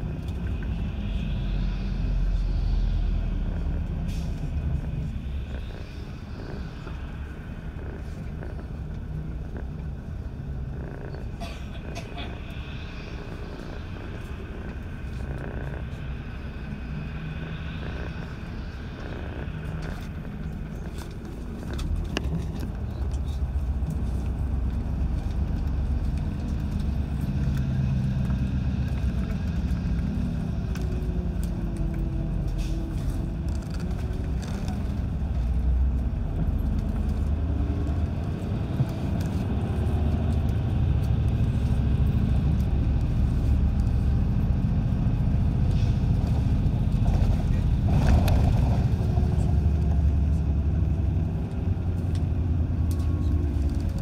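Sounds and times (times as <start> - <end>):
bus diesel engine running: 0.0 - 54.0
road and tyre noise: 0.0 - 54.0.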